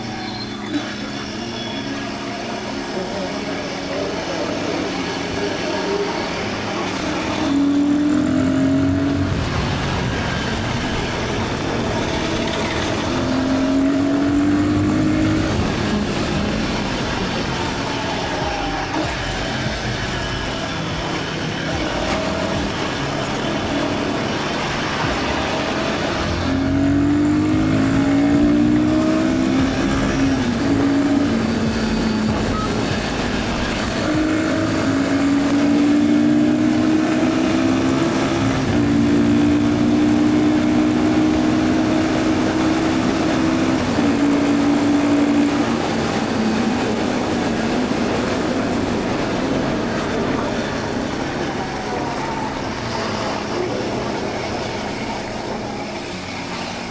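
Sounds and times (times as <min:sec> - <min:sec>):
motorcycle engine pulling: 0:00.0 - 0:56.9.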